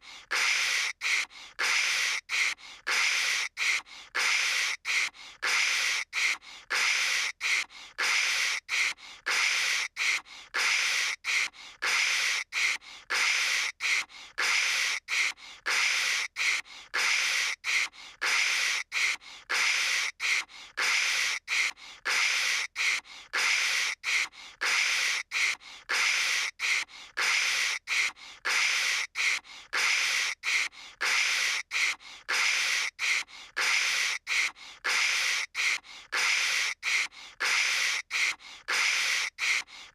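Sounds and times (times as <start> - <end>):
person making hissing mouth noises: 0.0 - 39.9.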